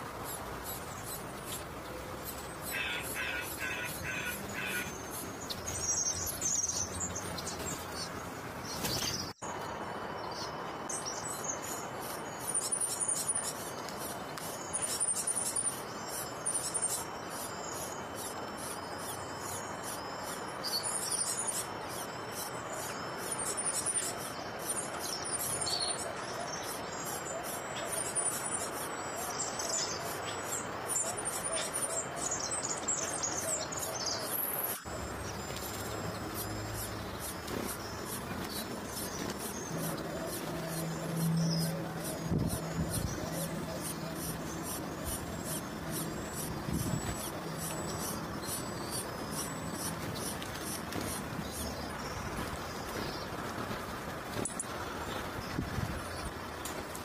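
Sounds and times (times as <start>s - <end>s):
nestling birds chirping: 0.0s - 57.0s.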